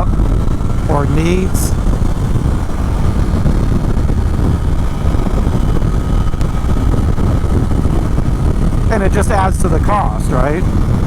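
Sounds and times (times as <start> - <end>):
motorcycle engine humming: 0.0 - 11.0
wind rush over helmet: 0.0 - 11.0.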